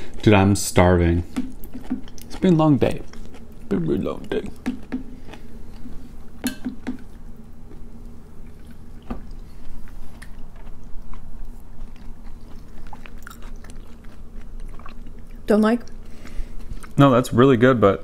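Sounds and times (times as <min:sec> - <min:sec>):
chewing and wet mouth sounds: 0:00.0 - 0:17.2.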